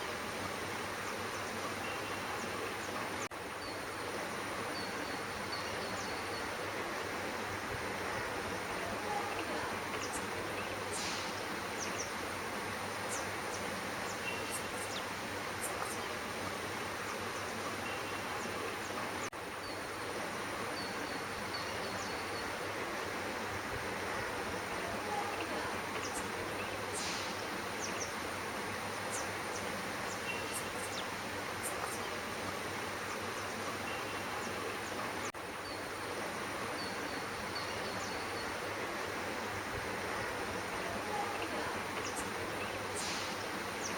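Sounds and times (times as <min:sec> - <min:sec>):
outdoor background hiss: 0:00.0 - 0:43.9.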